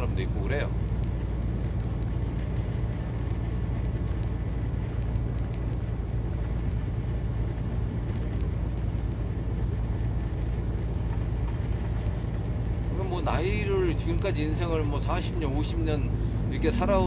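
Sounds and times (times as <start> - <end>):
diesel engine drone: 0.0 - 17.0
road noise: 0.0 - 17.0.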